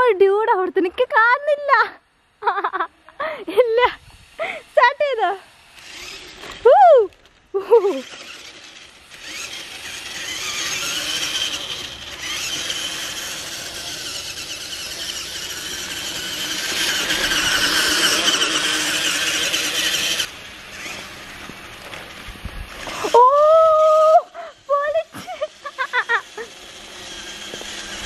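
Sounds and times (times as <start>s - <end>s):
toy truck motor whining: 3.2s - 28.0s.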